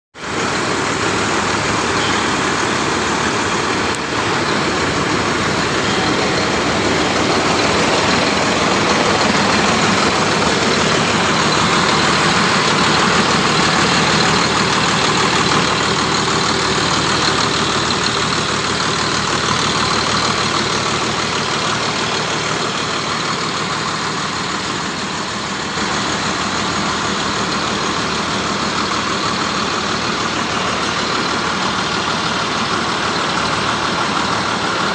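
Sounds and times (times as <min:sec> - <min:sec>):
drilling rig engine and air rush: 0:00.1 - 0:34.9.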